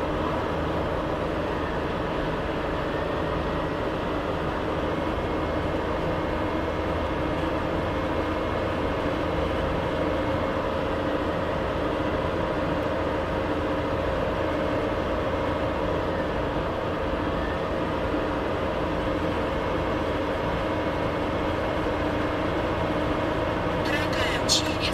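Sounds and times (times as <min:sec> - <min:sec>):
jet engines whistling and droning: 0:00.0 - 0:24.9.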